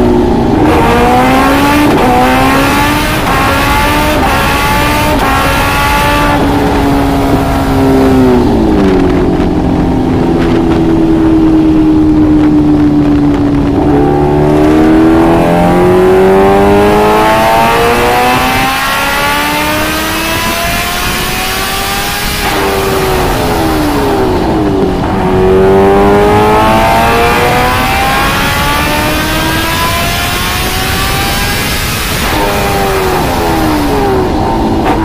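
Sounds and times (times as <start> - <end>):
motorcycle engine accelerating: 0.0 - 35.0
wind and road noise: 0.0 - 35.0.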